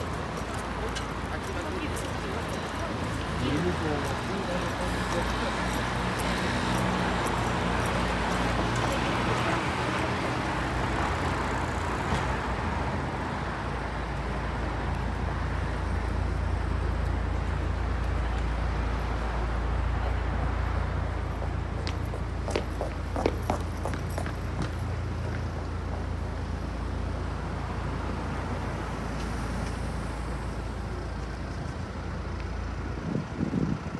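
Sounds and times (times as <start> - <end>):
steady traffic noise: 0.0 - 33.9.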